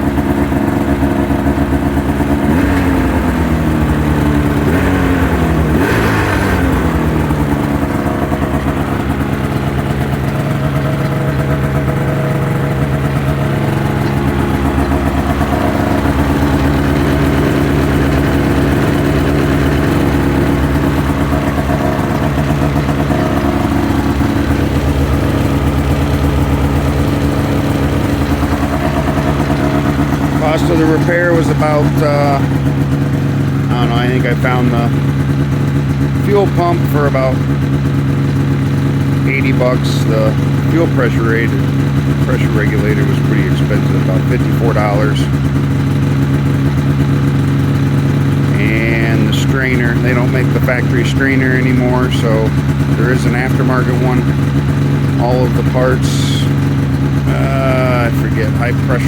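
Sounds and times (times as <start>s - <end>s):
snowmobile engine idling: 0.0s - 59.0s.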